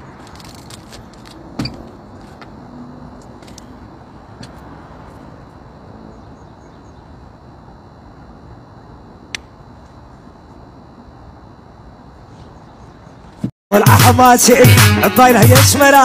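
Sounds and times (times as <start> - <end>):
distant road traffic hum: 0.0 - 13.5.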